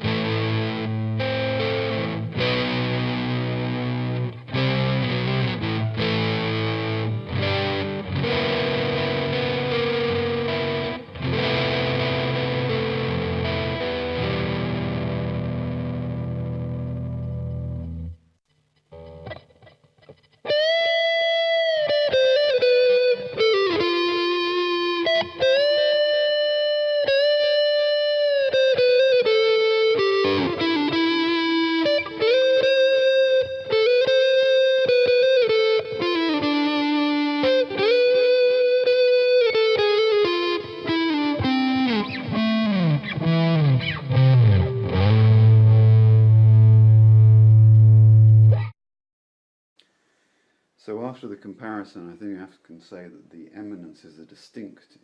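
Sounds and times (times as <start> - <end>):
overdriven electric guitar lead: 0.0 - 18.2, 18.9 - 48.8.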